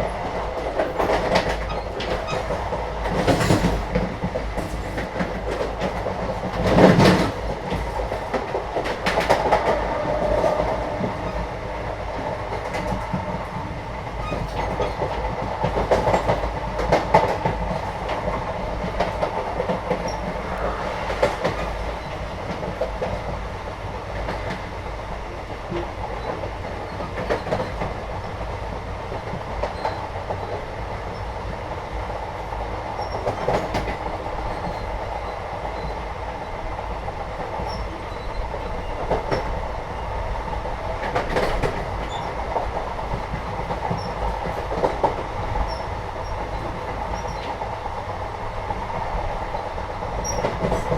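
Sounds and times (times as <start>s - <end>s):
train coach rumble and rattle: 0.0s - 50.9s.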